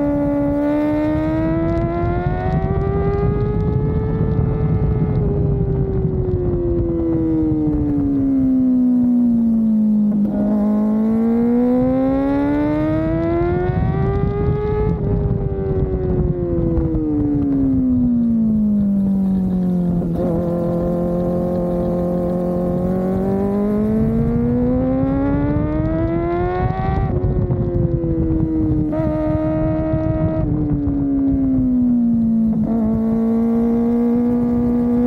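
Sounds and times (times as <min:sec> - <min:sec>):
motorcycle engine on the move: 0:00.0 - 0:35.0
wind and road noise: 0:00.0 - 0:35.0.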